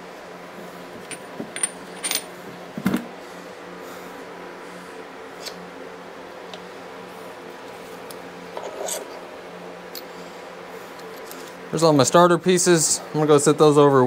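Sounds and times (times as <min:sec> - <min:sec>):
electric fan humming: 0:00.0 - 0:14.0.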